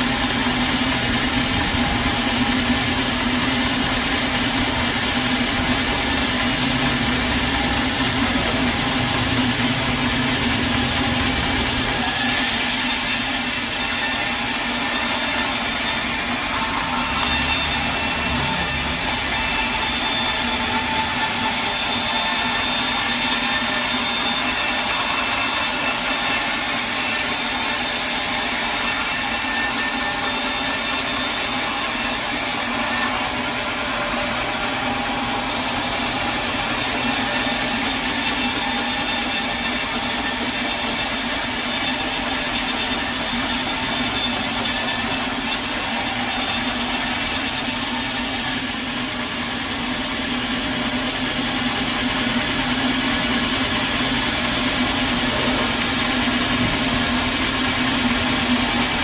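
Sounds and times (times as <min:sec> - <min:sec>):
steady machine hum: 0:00.0 - 0:12.0, 0:12.7 - 0:59.0
saw blade cutting log: 0:00.0 - 0:59.0.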